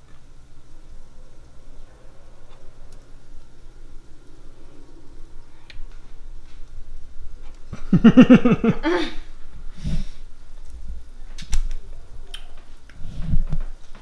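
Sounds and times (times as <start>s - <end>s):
low murmur: 0.0s - 14.0s.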